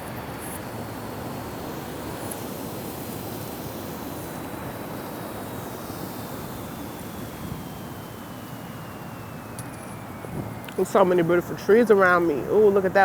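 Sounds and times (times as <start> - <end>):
hiss over low rumble: 0.0 - 13.0.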